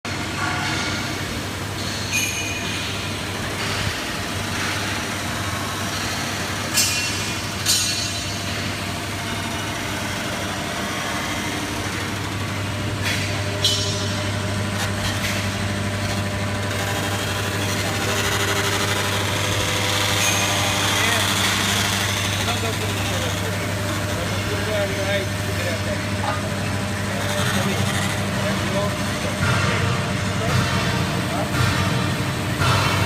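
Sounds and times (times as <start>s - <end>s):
welding unit electrical hum: 0.0s - 33.0s.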